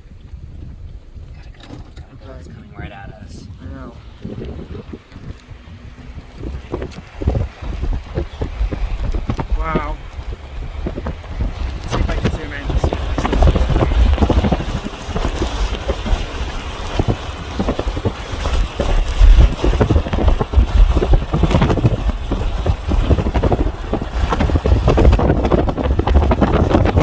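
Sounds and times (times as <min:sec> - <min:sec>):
gusty wind buffeting microphone: 0:00.0 - 0:27.0.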